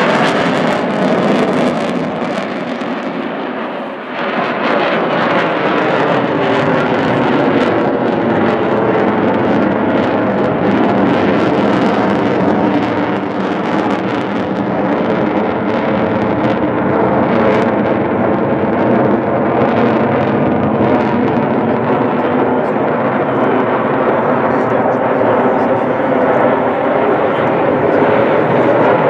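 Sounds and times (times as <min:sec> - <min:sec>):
fighter jet engine rumble: 0:00.0 - 0:29.0.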